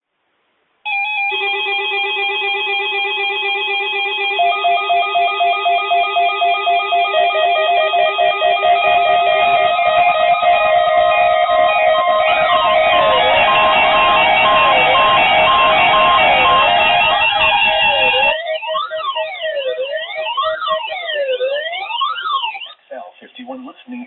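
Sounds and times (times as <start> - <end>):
rapid electronic alarm beeping: 0.9 - 22.8.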